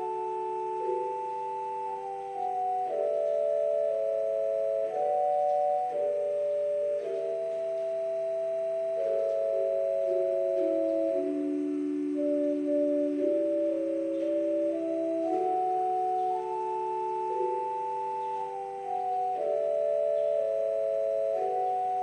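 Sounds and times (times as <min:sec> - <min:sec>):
organ playing held chords: 0:00.0 - 0:22.0.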